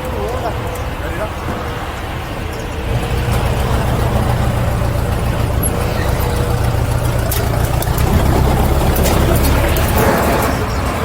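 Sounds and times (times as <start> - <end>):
truck engine at high revs: 0.4 - 11.0.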